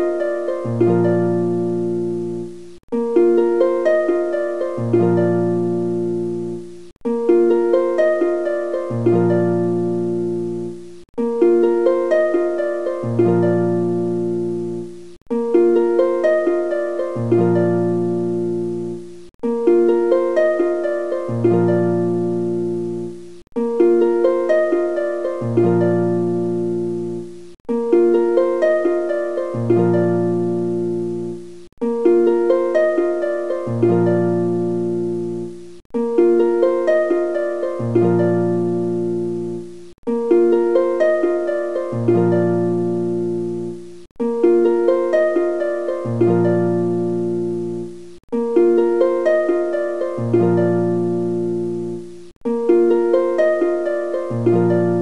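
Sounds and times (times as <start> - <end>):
plucked string melody: 0.0 - 55.0.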